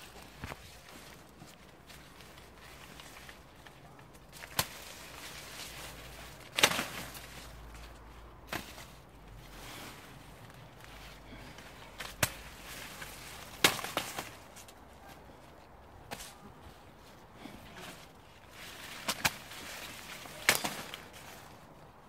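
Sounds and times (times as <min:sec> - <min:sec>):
dry corn stalks snapping: 0:00.0 - 0:09.0, 0:09.7 - 0:14.8, 0:17.8 - 0:21.6
faint rustle: 0:00.0 - 0:22.0.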